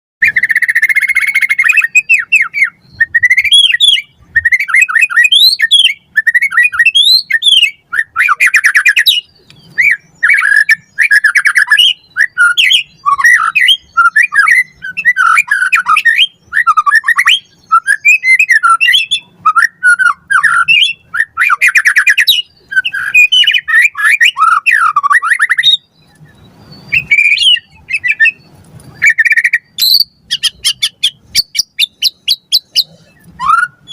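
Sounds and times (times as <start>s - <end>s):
bird singing whistles and trills: 0.2s - 33.9s.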